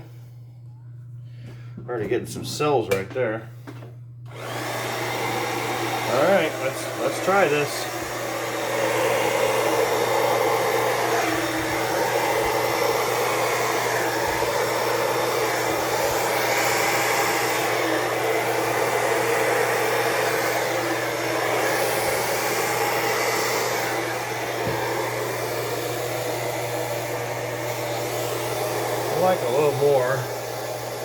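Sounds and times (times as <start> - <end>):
hair dryer running: 2.8 - 31.0.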